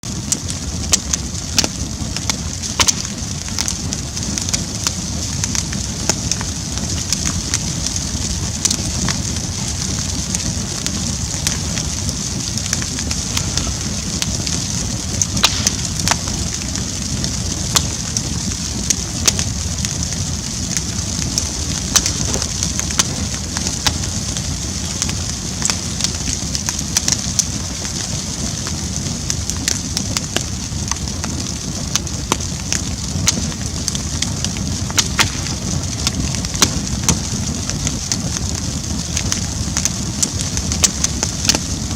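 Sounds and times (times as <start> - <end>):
campfire flames rushing: 0.0 - 41.9
fire crackling and popping: 0.0 - 41.9.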